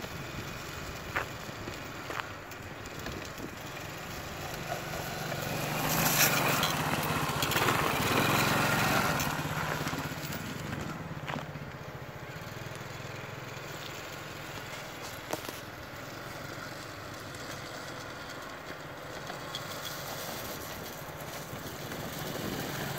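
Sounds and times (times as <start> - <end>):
distant atv engine running: 0.0 - 22.9.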